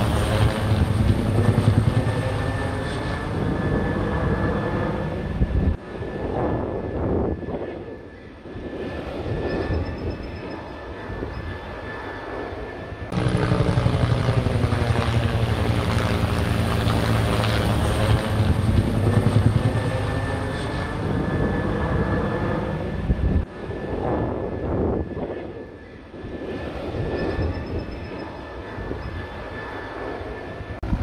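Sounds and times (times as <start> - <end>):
helicopter flying overhead: 0.0 - 31.0.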